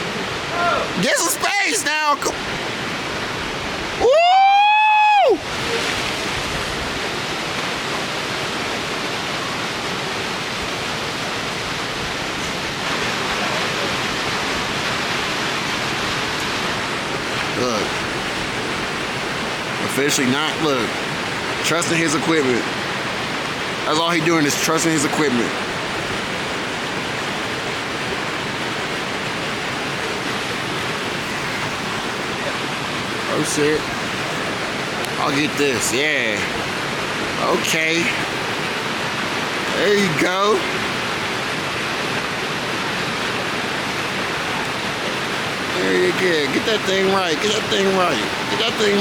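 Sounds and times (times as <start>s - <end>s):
river water rushing over rocks: 0.0s - 49.0s.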